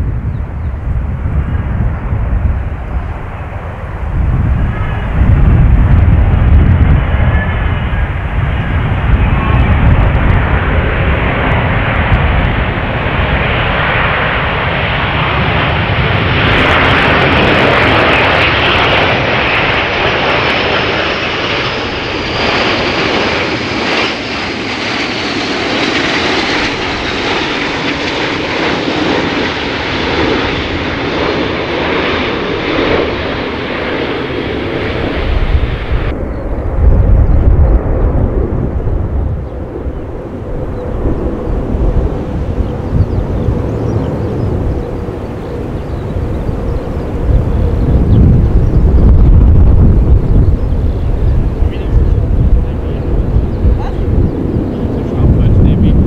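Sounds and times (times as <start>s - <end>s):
jet aircraft flying low: 0.0s - 56.0s.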